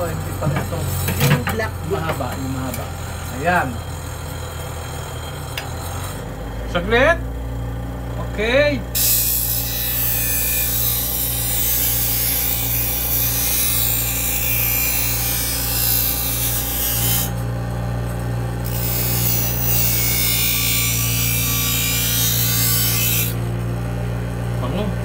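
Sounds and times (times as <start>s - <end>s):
bench grinder motor hum: 0.0s - 8.2s, 8.9s - 25.0s.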